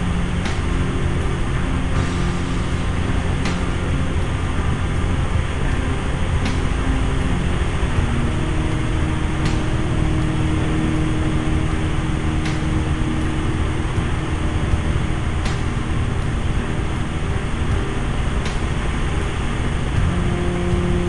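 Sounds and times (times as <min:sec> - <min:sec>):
helicopter rotor and engine rumble: 0:00.0 - 0:21.0.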